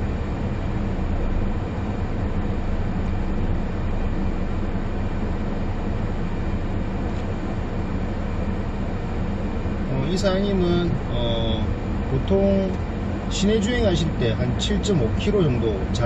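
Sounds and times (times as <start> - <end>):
diesel engine rumble: 0.0 - 16.0
tyre and road noise: 0.0 - 16.0.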